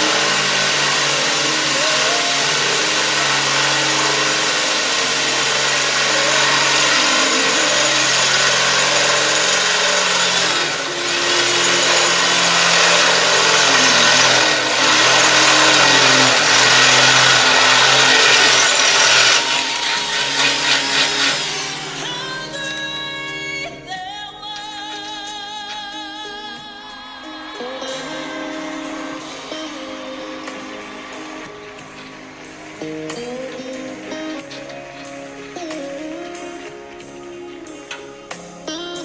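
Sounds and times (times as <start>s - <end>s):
power drill boring into steel: 0.0s - 23.8s, 27.3s - 36.0s.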